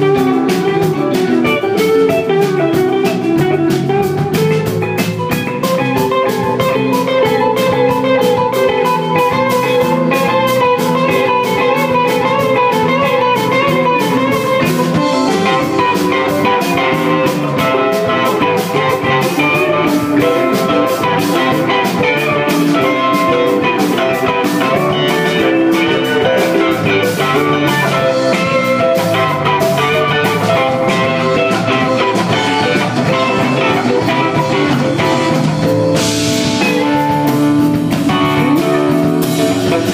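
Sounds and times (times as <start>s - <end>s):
drum kit with cymbal beat: 0.0s - 39.9s
electric guitars: 0.0s - 39.9s
electric keyboard: 0.0s - 39.9s.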